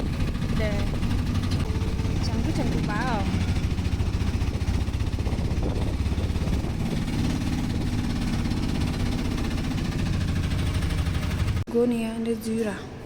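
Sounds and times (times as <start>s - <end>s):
engine low pulsing rumble: 0.0s - 11.7s.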